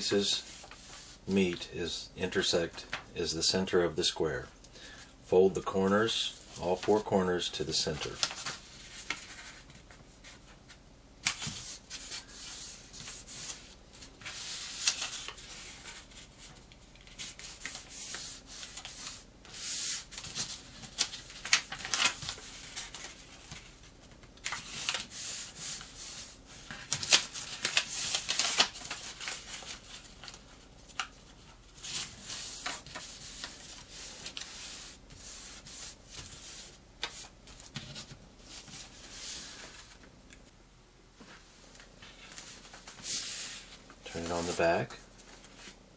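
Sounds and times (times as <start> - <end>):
paper rustling and folding: 0.0 - 1.2, 7.8 - 10.6, 11.2 - 40.1, 41.2 - 45.8.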